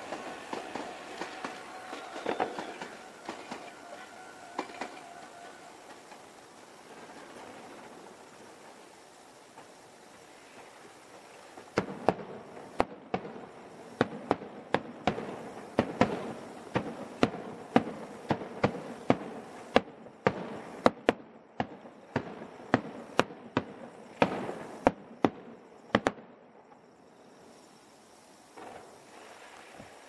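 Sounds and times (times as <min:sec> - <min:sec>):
firework bangs: 0:00.0 - 0:10.6, 0:11.5 - 0:26.3, 0:28.5 - 0:30.0
firework crackling: 0:00.0 - 0:30.0.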